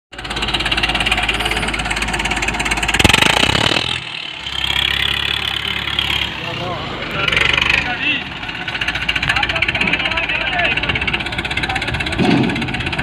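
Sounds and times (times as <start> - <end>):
diesel tractor engine knocking: 0.1 - 13.0.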